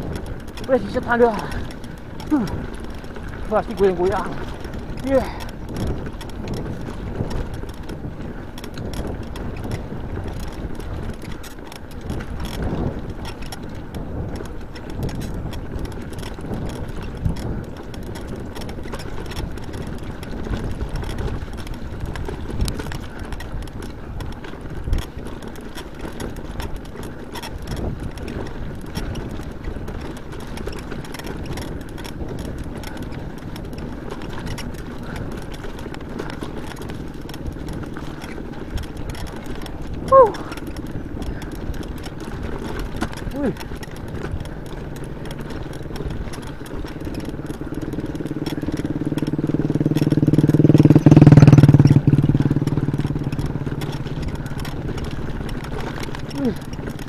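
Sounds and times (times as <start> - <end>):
bike frame rattling: 0.0 - 57.0
bike tyres crunching on gravel: 0.0 - 57.0.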